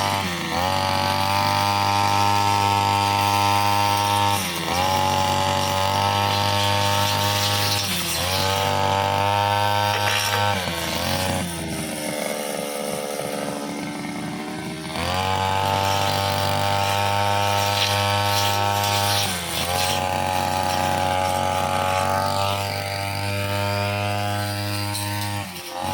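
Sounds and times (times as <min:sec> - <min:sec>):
brushcutter engine revving: 0:00.0 - 0:25.9.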